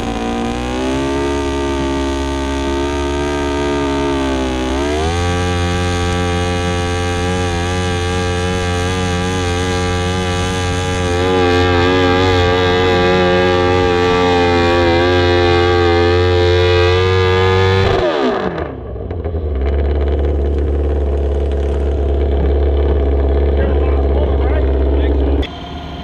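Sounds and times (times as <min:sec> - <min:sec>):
tractor engine at full throttle: 0:00.0 - 0:26.0.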